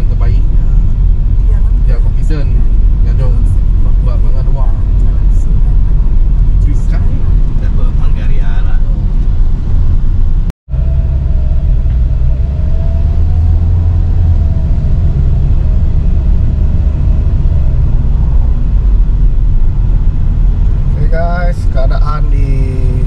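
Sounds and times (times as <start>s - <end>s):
car rumbling on the road: 0.0s - 23.0s.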